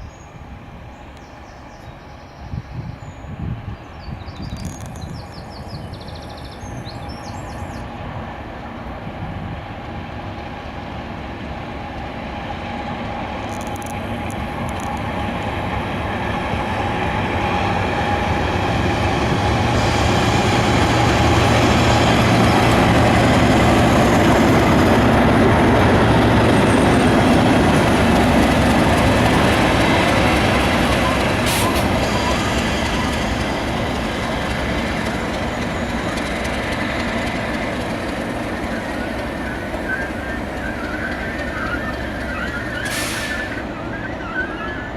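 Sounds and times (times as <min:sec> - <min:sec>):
diesel locomotive engine: 0:00.0 - 0:44.9.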